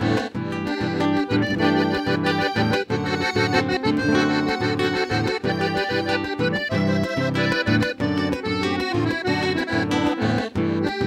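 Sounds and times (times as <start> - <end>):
button accordion playing: 0.0 - 11.0
guitar accompaniment: 0.0 - 11.0.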